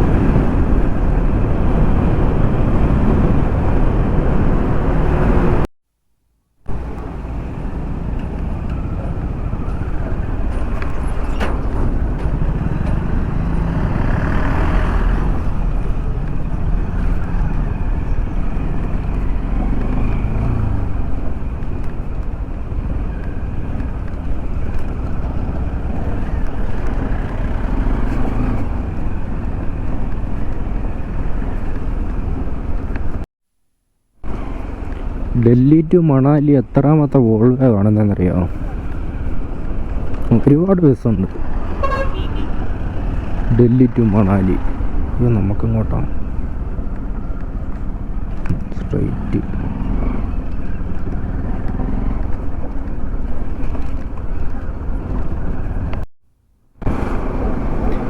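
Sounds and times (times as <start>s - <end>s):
vehicle engine and road rumble: 0.0s - 5.7s, 6.6s - 33.3s, 34.2s - 58.0s
wind: 0.0s - 33.3s, 33.9s - 58.0s.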